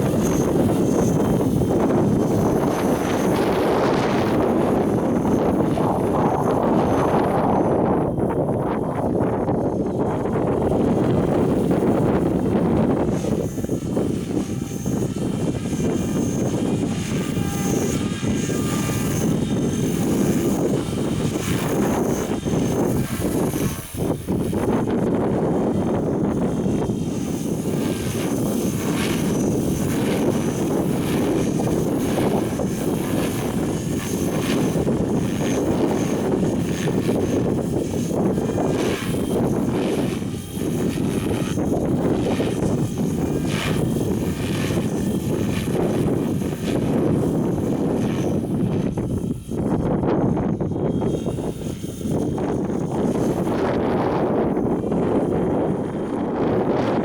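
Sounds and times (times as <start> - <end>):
model aircraft whine: 0.0 - 57.0
wind buffeting microphone: 0.0 - 57.0.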